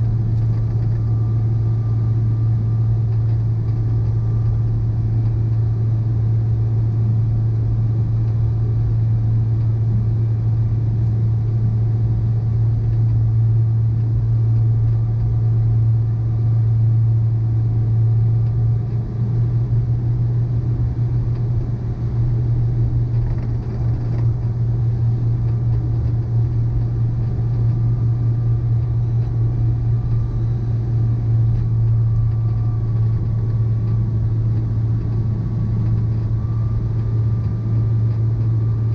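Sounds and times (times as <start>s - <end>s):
faint constant tones: 0.0s - 38.9s
low mechanical hum: 0.0s - 38.9s.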